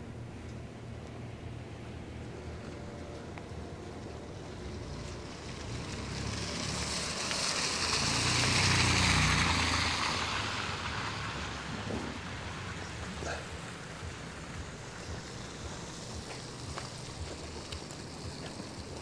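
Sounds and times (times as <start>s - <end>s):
vehicle driving past on wet street: 0.1s - 19.0s.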